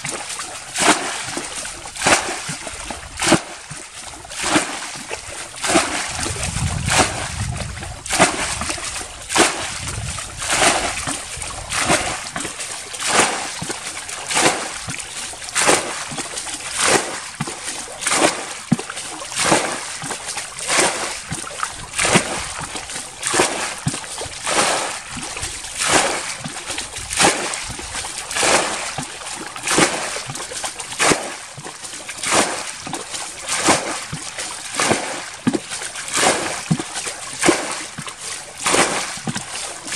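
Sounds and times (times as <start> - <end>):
bucket splashing water: 0.0 - 39.9.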